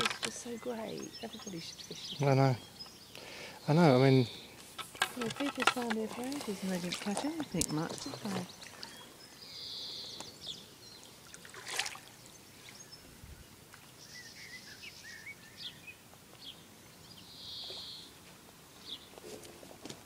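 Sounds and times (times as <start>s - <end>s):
birds calling and singing: 0.0s - 19.3s
faint outdoor background: 0.0s - 20.0s.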